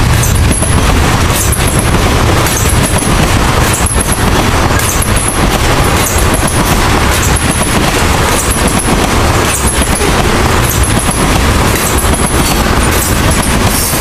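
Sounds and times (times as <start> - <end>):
freight train rumbling past: 0.0 - 14.0
wheels clacking over rail joints: 0.0 - 14.0.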